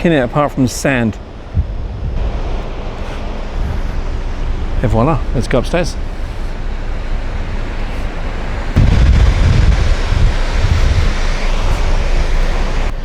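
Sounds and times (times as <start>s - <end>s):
rush of wind and sea: 0.0s - 13.0s
wind buffeting microphone: 0.0s - 13.0s.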